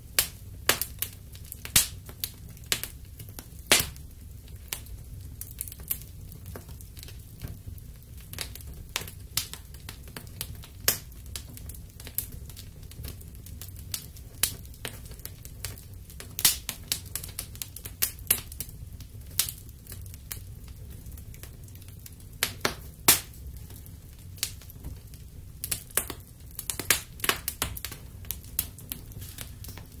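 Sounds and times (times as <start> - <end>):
fire crackling and popping: 0.0 - 30.0
low rumble of flames: 0.0 - 30.0.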